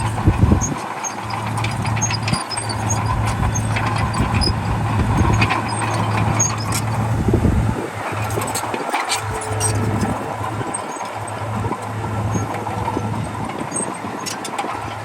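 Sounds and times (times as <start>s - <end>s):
diesel engine humming: 0.0s - 15.0s
metallic clicks and squeaks: 0.0s - 15.0s.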